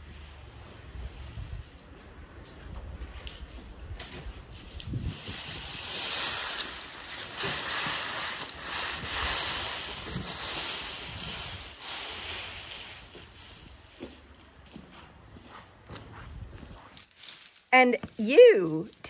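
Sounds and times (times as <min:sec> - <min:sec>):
straw rustling on concrete: 0:00.1 - 0:19.0.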